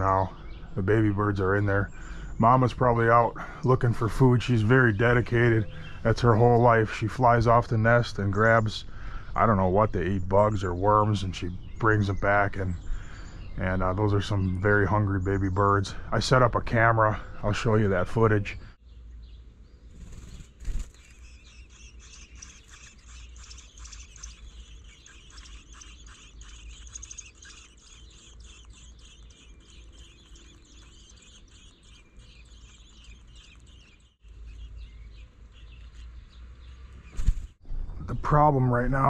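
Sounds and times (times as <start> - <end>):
bird nestlings chirping: 0.0 - 39.0.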